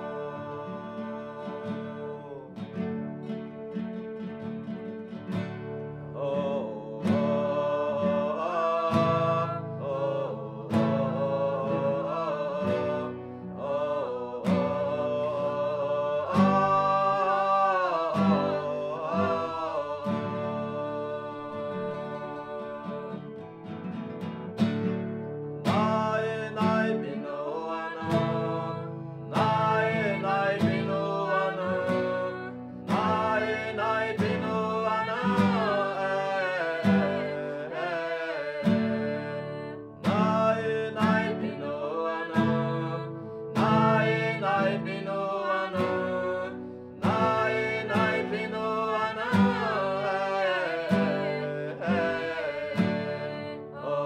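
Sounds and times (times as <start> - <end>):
man singing: 0.0 - 3.7, 5.6 - 23.6, 25.6 - 54.0
acoustic guitars strummed: 0.0 - 54.0.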